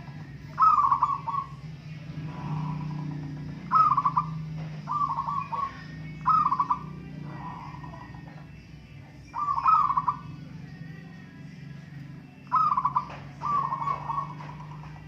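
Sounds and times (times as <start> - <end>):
doves cooing: 0.0 - 11.0, 11.7 - 15.0.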